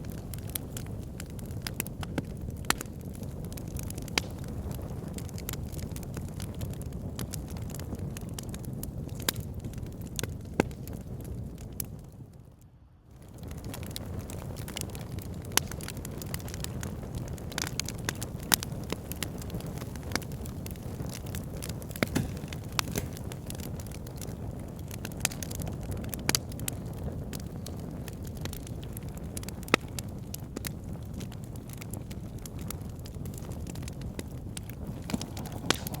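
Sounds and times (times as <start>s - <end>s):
fire burning with low rush: 0.0s - 36.0s
fire crackles and pops: 0.0s - 36.0s.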